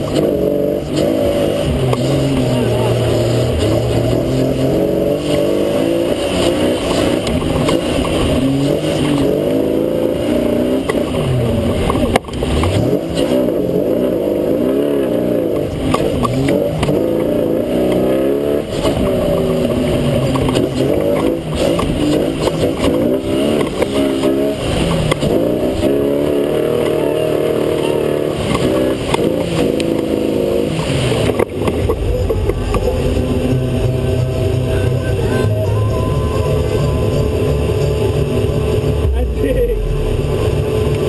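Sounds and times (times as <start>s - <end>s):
offroad engine revving: 0.0s - 41.0s.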